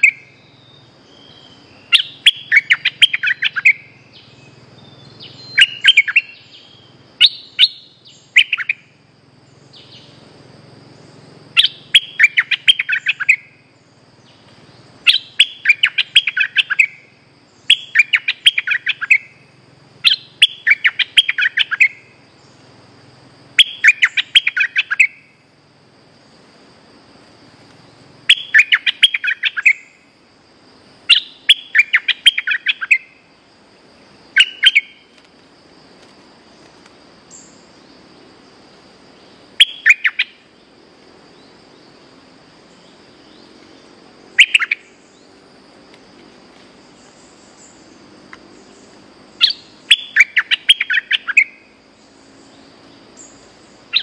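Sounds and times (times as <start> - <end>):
bird chirping: 0.0 - 25.4, 27.8 - 30.1, 31.0 - 33.3, 33.9 - 35.3, 36.4 - 45.5, 46.8 - 54.0.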